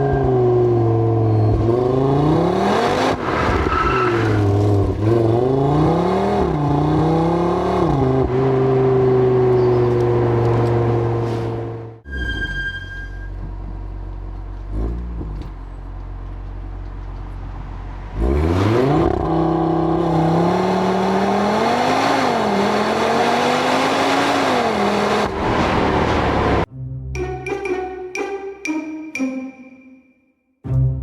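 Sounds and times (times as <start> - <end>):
car engine revving: 0.0 - 12.0, 13.6 - 26.7.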